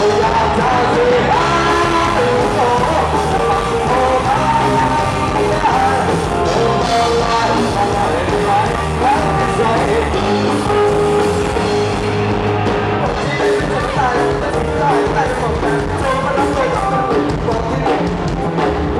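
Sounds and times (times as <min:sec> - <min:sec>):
lead singer singing: 0:00.0 - 0:18.7
live rock band: 0:00.0 - 0:18.9.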